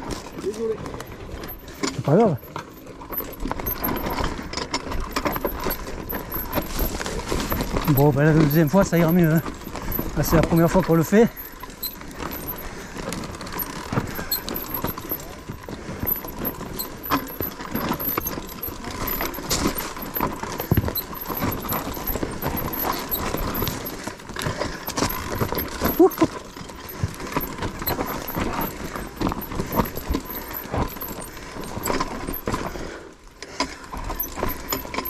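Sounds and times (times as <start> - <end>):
mountain bike rattling on trail: 0.0 - 35.0.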